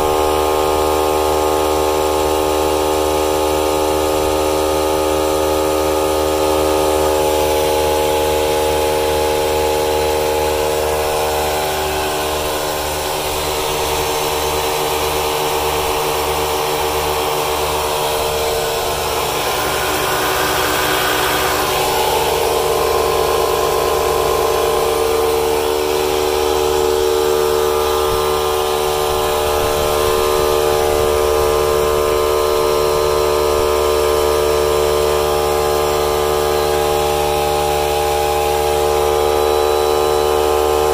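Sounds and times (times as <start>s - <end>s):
tyre inflators droning: 0.0s - 40.9s.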